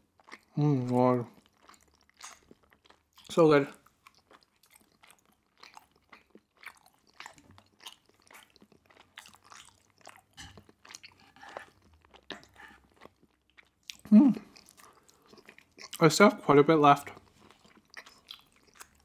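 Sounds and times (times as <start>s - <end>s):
wet chewing clicks and smacks: 0.0s - 16.2s, 16.9s - 19.0s.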